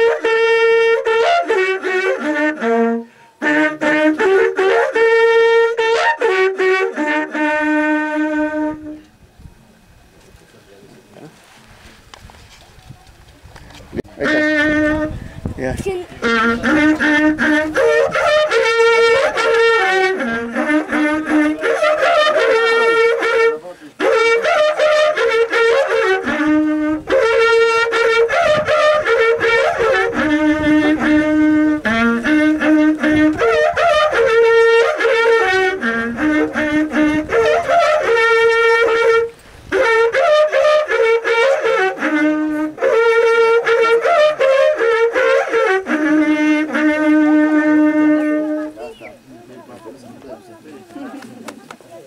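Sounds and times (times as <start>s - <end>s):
long horns blown together: 0.0s - 9.2s, 13.9s - 50.4s.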